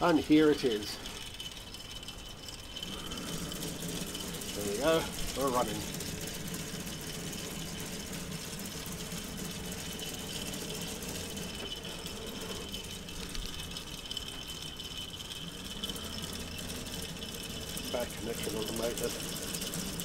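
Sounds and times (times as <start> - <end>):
plastic gears clattering: 0.0 - 20.0
thin high whine: 0.0 - 20.0.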